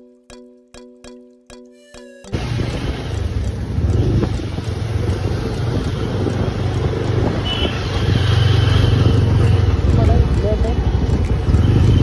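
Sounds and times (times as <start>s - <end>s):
motorcycle engine running: 2.3s - 12.0s
road and wind noise: 2.3s - 12.0s.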